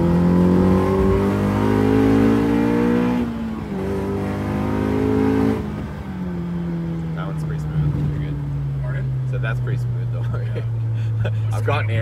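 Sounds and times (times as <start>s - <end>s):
car engine revving in cabin: 0.0s - 12.0s.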